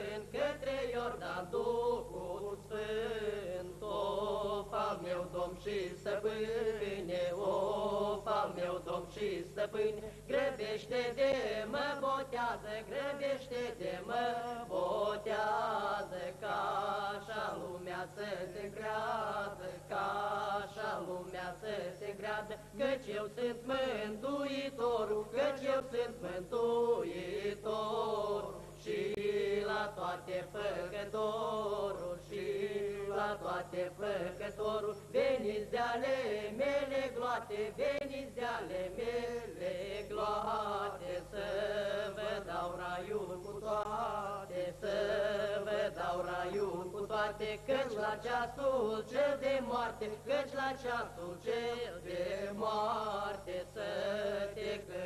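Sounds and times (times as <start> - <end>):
person singing unaccompanied: 0.0 - 55.0.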